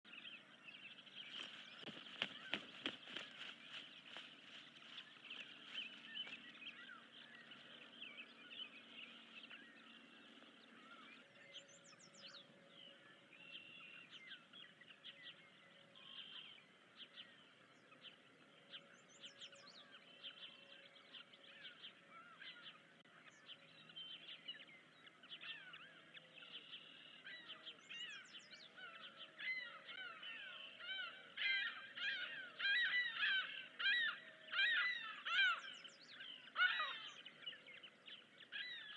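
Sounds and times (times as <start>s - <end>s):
birds chirping: 0.0s - 38.9s
faint low hum: 0.1s - 38.9s.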